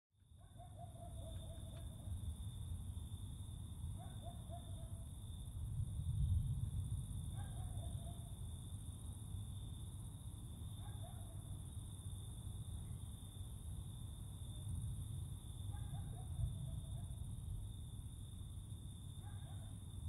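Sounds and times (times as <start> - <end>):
crickets chirring: 0.3 - 20.0.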